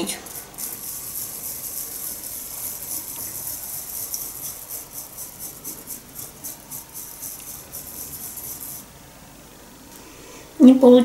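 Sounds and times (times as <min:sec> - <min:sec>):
bamboo whisk rattling: 0:00.0 - 0:08.9.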